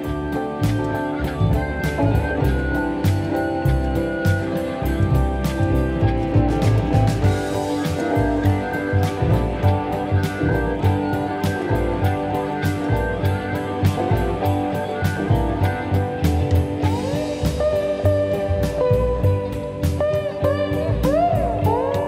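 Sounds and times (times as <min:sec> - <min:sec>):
background music with steady beat: 0:00.0 - 0:22.0.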